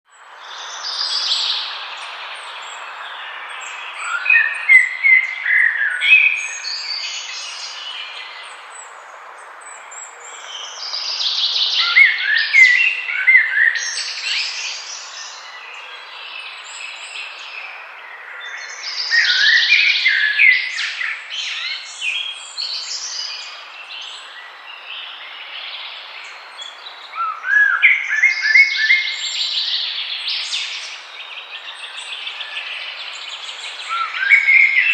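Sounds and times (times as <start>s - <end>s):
songbirds singing: 0.1s - 34.9s.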